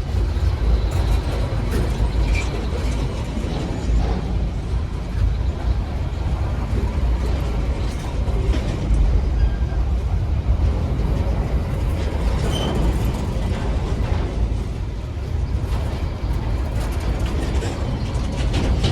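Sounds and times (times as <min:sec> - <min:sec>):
locomotive engine rumble: 0:00.0 - 0:18.9.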